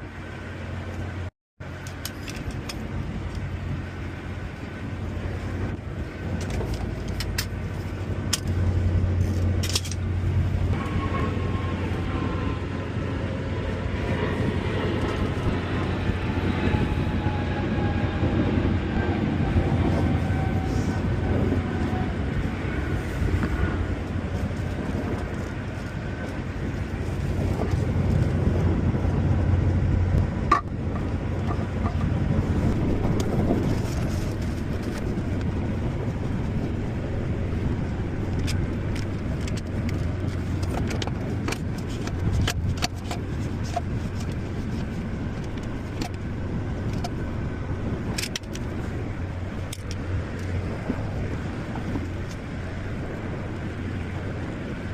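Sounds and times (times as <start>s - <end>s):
engine rumbling: 0.0s - 54.9s.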